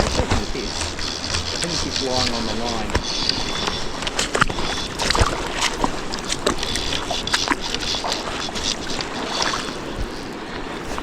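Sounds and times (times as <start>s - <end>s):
river water over stones: 0.0s - 11.0s.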